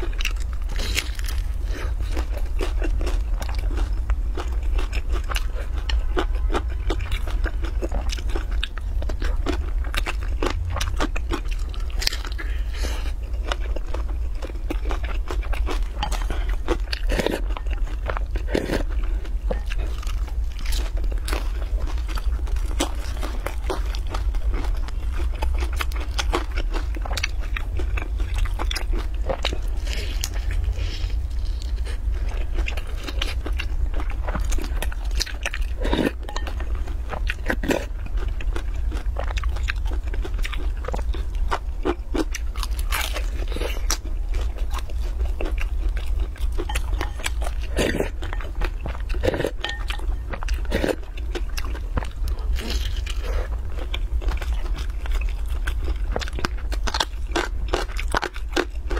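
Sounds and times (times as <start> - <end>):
chewing crunchy pastry: 0.0 - 58.9
low hum: 0.0 - 58.9.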